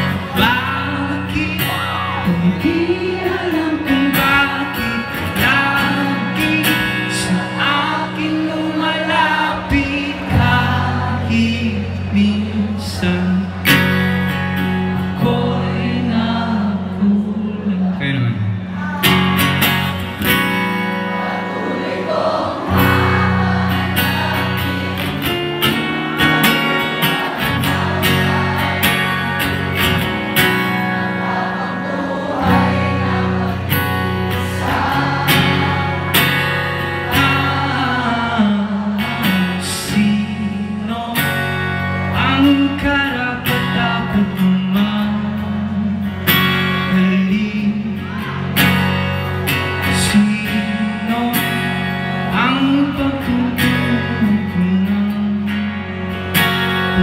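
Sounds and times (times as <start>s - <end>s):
man singing: 0.0s - 19.5s, 22.4s - 48.8s, 49.7s - 56.0s
acoustic guitar strumming: 0.0s - 57.0s.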